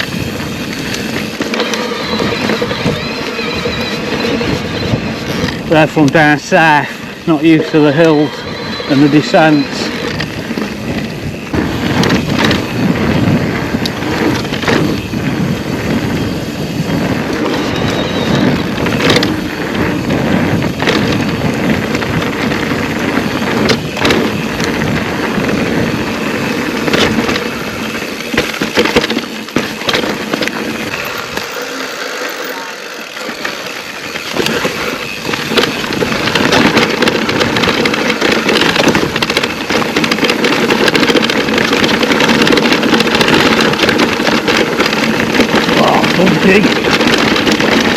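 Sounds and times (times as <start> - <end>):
wind on microphone: 0.0 - 31.6, 33.2 - 47.9
bike knocking and rattling: 0.0 - 47.9
tyres on loose gravel: 0.0 - 47.9.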